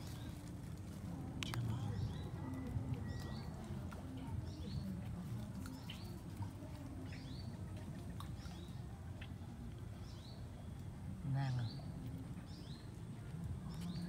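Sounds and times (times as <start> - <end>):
low steady murmur: 0.0 - 14.0
small birds chirping: 0.0 - 14.0.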